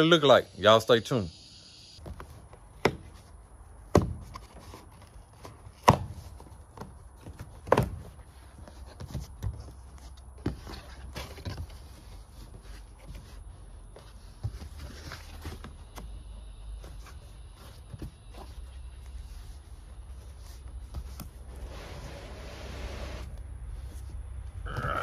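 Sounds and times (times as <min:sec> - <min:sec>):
cardboard flaps scraping and rustling: 0:04.0 - 0:24.2.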